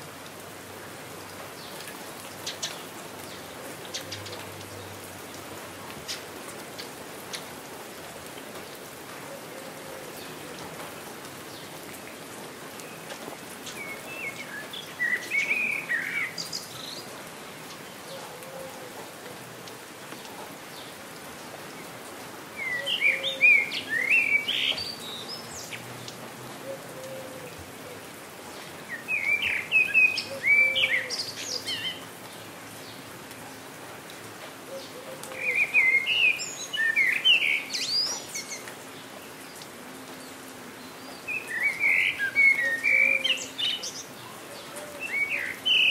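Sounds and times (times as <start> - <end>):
steady rain falling: 0.0 - 45.9
songbirds chirping: 0.2 - 45.9.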